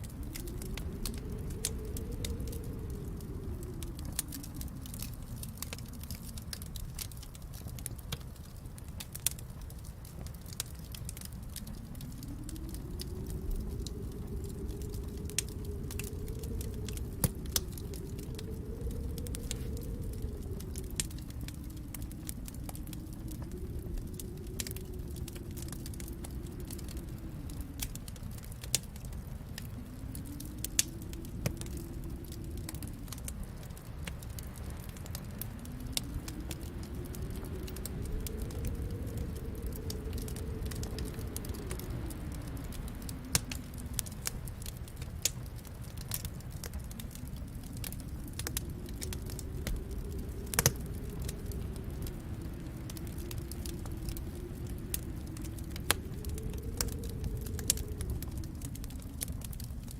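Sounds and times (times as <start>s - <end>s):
fire pops: 0.0s - 59.9s
snowstorm wind: 0.0s - 59.9s
wood fire crackling: 0.0s - 59.9s.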